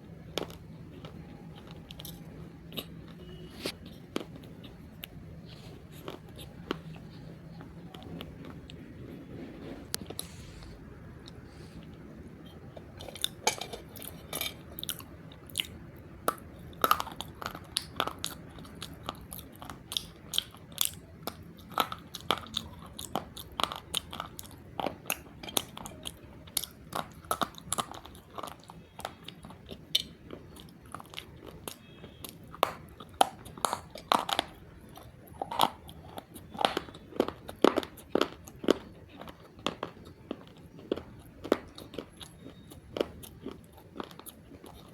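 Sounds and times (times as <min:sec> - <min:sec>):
crunching and chewing clay: 0:00.0 - 0:44.9.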